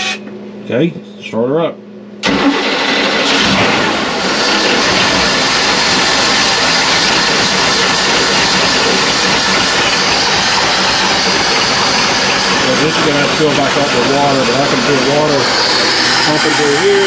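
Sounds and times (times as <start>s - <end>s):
boat engine running: 2.2s - 17.0s.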